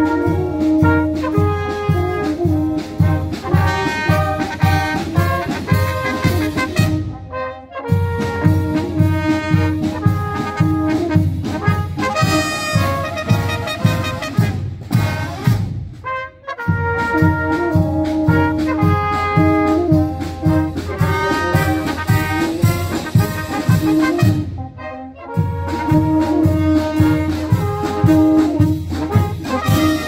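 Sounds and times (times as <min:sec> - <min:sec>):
brass music with bass beat: 0:00.0 - 0:30.0.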